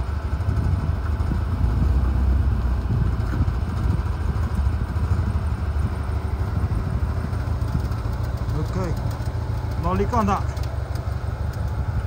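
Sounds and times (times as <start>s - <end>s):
vehicle engine at low revs: 0.0s - 12.0s.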